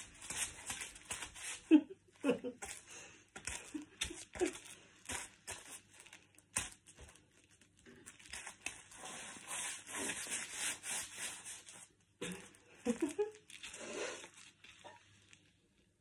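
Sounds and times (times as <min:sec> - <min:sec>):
feet crunching crisps on tile: 0:00.0 - 0:15.2.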